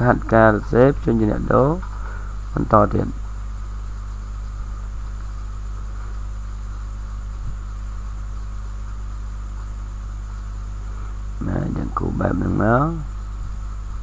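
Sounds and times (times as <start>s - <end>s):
constant hiss: 0.0s - 14.0s
low electrical hum: 0.0s - 14.0s.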